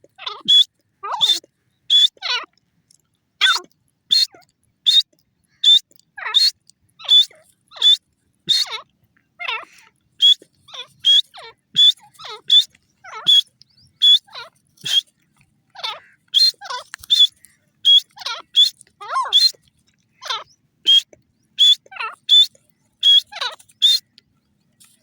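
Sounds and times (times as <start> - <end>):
francolin harsh calls: 0.2 - 2.5, 3.4 - 15.1, 15.8 - 24.2.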